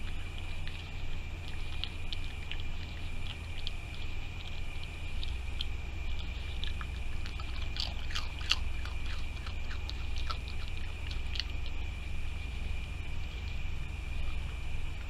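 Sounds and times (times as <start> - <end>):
raccoon chewing and crunching: 0.0 - 15.0.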